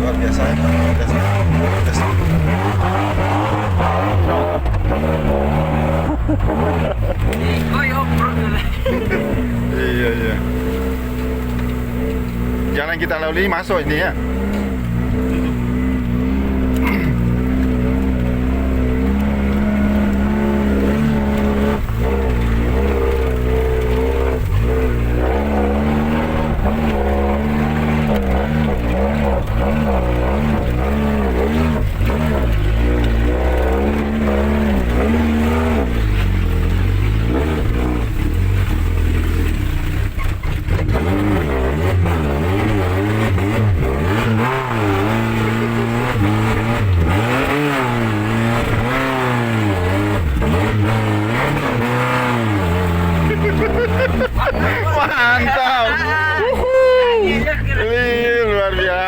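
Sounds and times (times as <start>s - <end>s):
vehicle engine revving hard: 0.0s - 59.0s.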